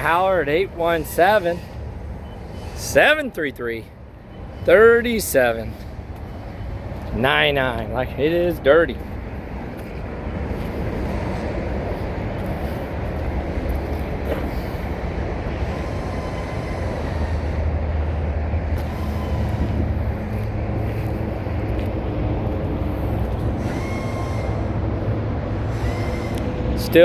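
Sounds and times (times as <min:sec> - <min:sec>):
large diesel engine rumbling: 0:00.0 - 0:27.0.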